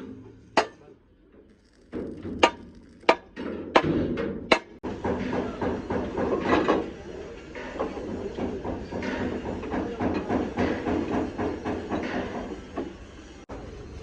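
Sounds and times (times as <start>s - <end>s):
workshop din: 0.0s - 14.0s.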